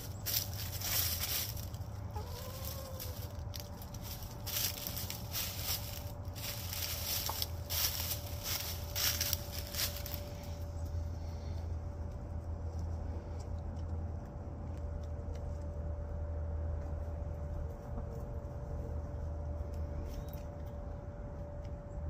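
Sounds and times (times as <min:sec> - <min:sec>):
hen scratching in dry leaves: 0:00.0 - 0:13.4, 0:16.8 - 0:21.4
steady low hum: 0:00.0 - 0:22.0.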